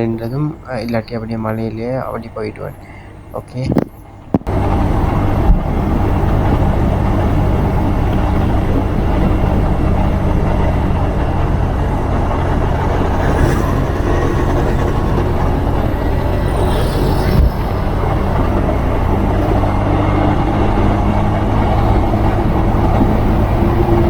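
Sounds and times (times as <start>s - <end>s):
motorcycle engine hum: 0.0s - 24.0s
wind and road noise: 0.0s - 24.0s.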